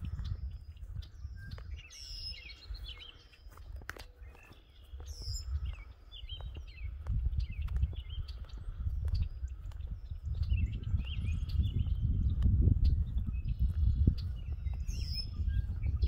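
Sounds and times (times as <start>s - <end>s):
songbirds chirping and warbling: 0.0s - 16.0s.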